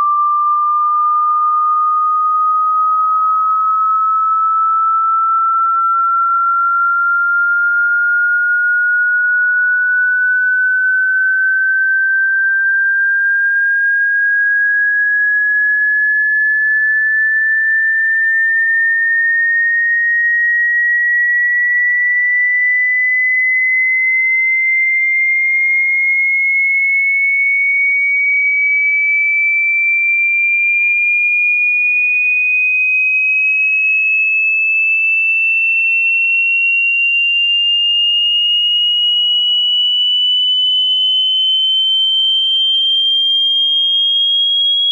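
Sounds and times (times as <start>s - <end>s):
rising sine tone: 0.0s - 29.4s, 30.4s - 44.9s.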